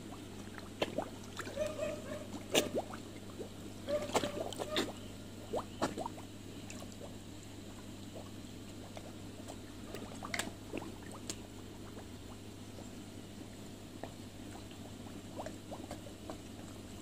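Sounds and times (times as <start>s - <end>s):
fish slurping and splashing: 0.0s - 17.0s
steady low hum: 0.0s - 17.0s.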